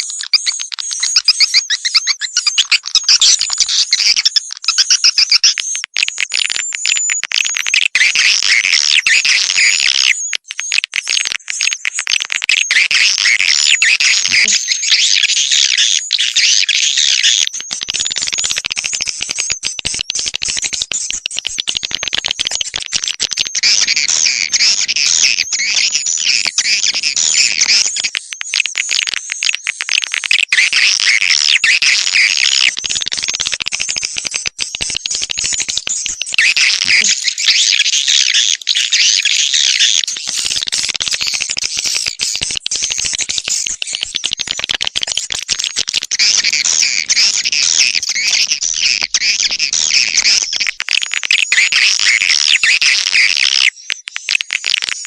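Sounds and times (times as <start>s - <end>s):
swiftlets twittering and chirping: 0.0s - 55.0s.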